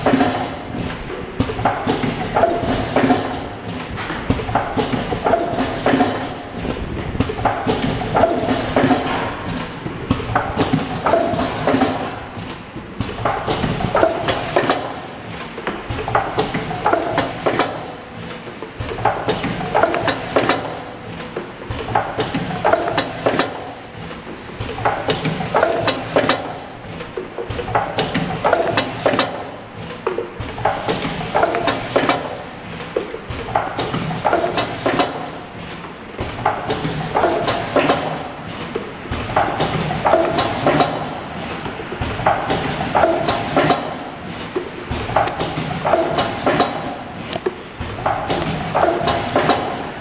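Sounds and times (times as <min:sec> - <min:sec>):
machine clicking and clattering: 0:00.0 - 0:50.0.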